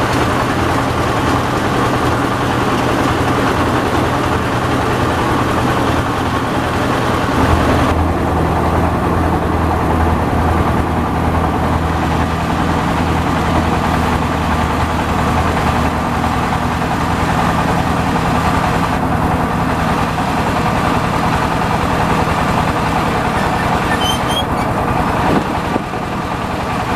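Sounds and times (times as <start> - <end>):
combine harvester running: 0.0 - 26.9.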